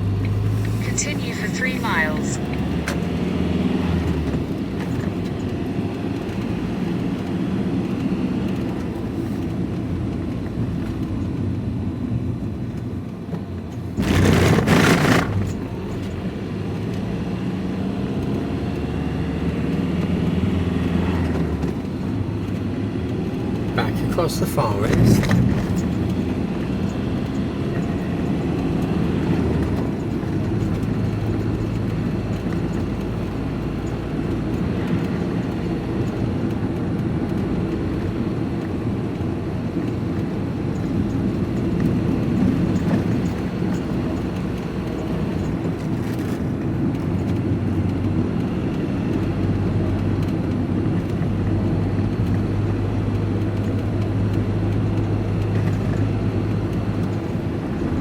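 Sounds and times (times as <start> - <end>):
diesel engine drone: 0.0 - 58.0
road noise: 0.0 - 58.0.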